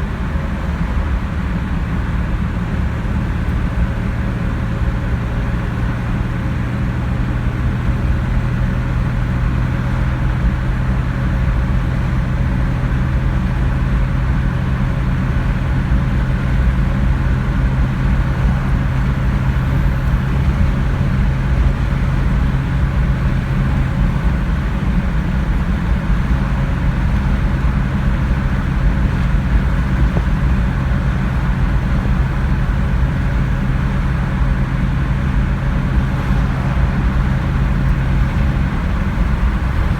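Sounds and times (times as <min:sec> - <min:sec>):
car engine drone: 0:00.0 - 0:39.9
low road rumble: 0:00.0 - 0:39.9.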